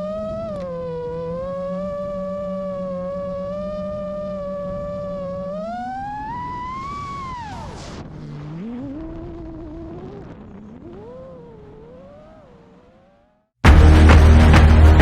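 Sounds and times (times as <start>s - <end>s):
racing drone motors whining: 0.0s - 15.0s.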